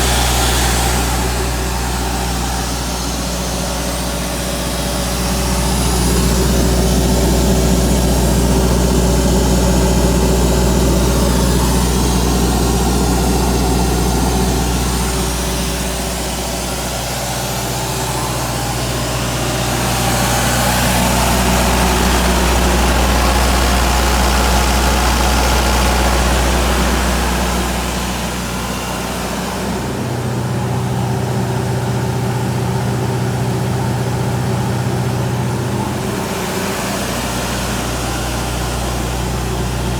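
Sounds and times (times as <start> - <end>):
diesel compressor engine running: 0.0 - 39.9.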